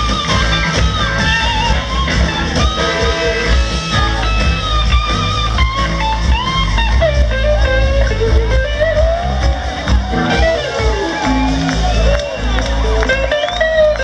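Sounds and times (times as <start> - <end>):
blues-rock band playing: 0.0 - 14.0
electric guitar lead: 0.0 - 14.0.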